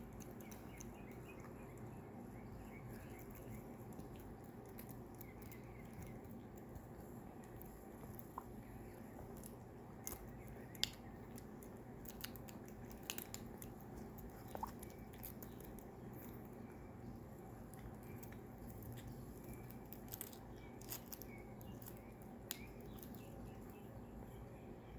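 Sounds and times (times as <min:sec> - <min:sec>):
low steady hum: 0:00.0 - 0:24.9
parrot chewing plastic straw: 0:00.1 - 0:23.6.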